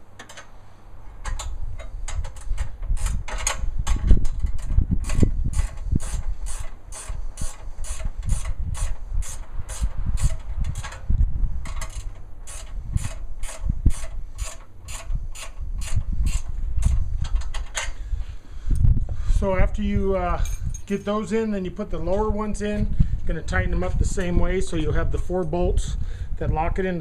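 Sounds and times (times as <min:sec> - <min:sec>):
low handling rumble: 0:00.0 - 0:27.0.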